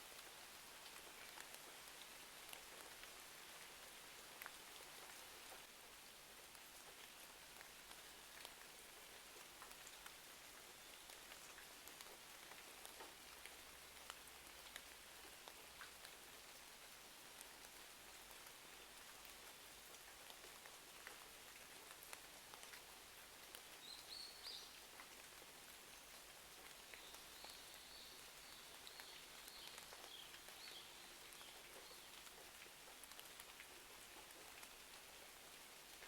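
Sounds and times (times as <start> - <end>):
rain hiss: 0.0 - 36.0.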